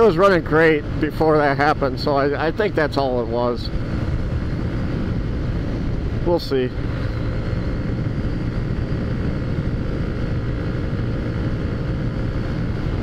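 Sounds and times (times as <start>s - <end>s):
scooter engine drone: 0.0s - 13.0s.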